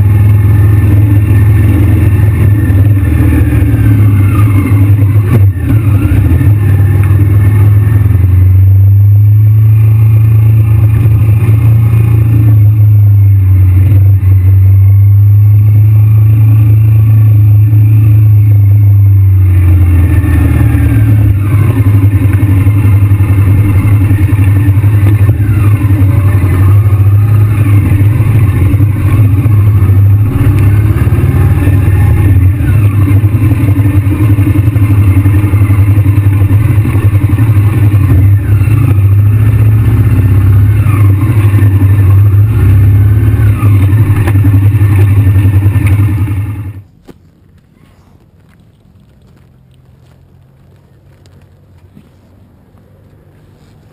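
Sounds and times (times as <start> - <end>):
motorcycle engine at low revs: 0.0 - 53.9.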